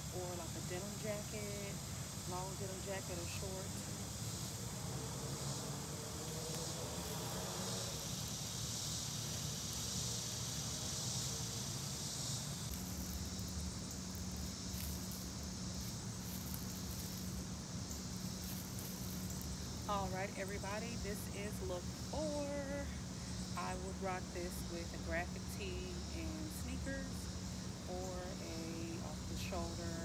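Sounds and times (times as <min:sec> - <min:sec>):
insects droning: 0:00.0 - 0:30.0
steady low hum: 0:00.0 - 0:30.0.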